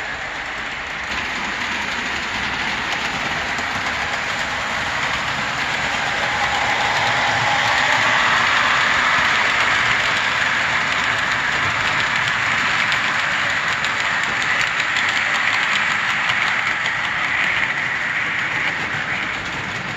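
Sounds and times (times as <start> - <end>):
model train rumbling on track: 0.0 - 19.9.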